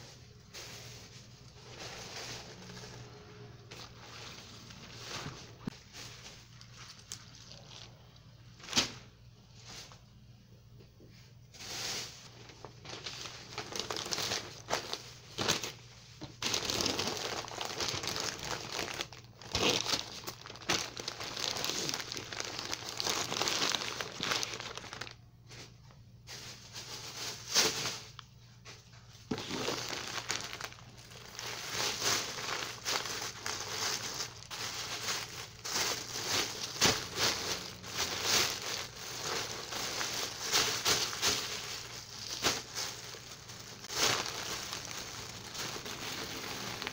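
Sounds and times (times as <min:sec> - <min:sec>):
newspaper crinkling and rustling: 0:00.0 - 0:07.9, 0:11.6 - 0:25.2, 0:29.2 - 0:46.9
plastic bag rustling: 0:00.0 - 0:10.2, 0:11.5 - 0:46.9.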